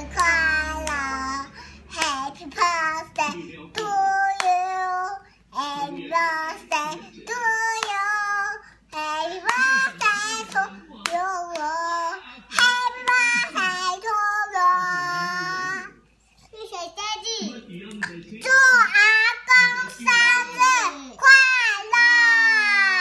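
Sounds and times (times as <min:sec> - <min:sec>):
child singing in a high voice: 0:00.0 - 0:15.9, 0:18.4 - 0:23.0.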